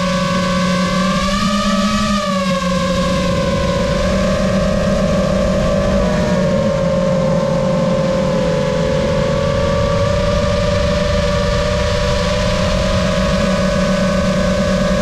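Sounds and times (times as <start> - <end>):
drone motors whining: 0.0 - 15.0
low rush of noise: 2.6 - 15.0.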